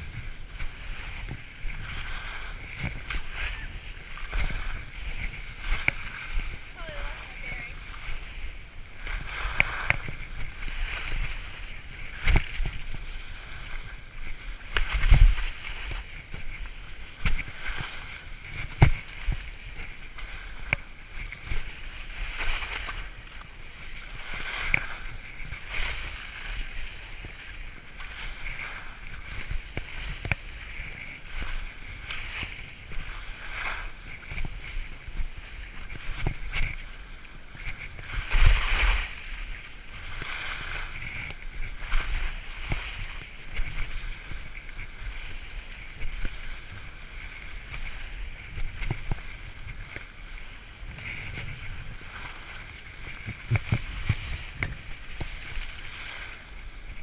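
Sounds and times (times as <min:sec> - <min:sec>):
skis scraping through snow: 0:00.0 - 0:57.0.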